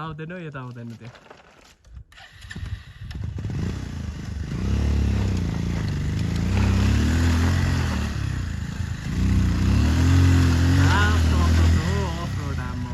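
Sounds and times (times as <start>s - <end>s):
motorcycle engine revving: 2.2s - 12.9s.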